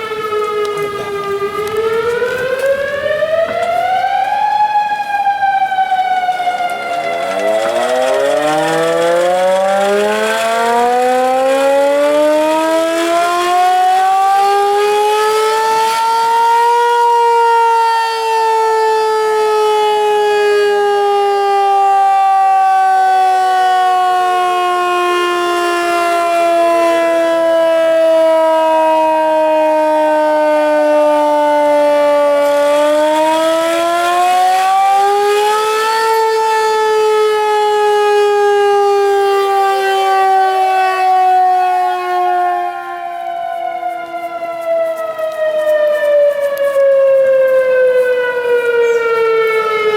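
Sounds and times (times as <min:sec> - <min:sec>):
sirens wailing: 0:00.0 - 0:49.9.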